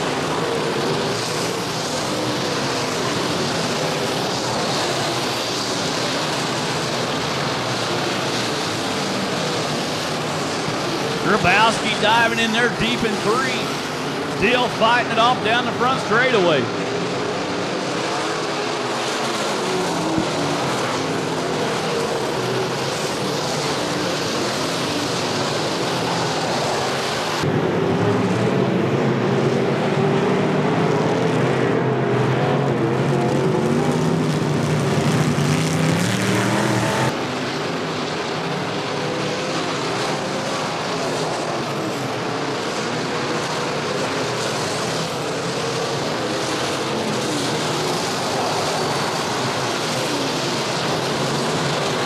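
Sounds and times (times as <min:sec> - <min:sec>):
race car engines roaring: 0:00.0 - 0:52.0.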